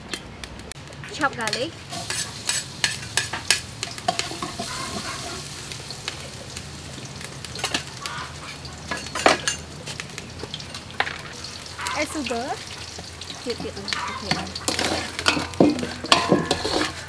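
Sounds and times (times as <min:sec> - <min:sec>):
garlic sizzling in oil: 0:00.6 - 0:17.0.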